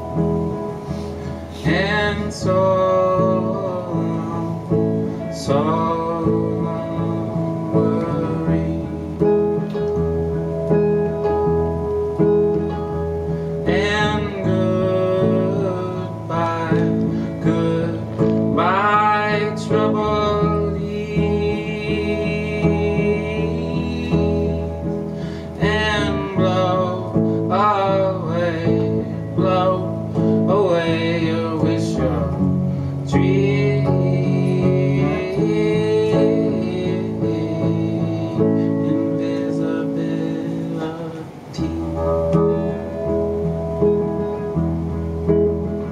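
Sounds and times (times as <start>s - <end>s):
electric guitar solo: 0.0s - 45.9s.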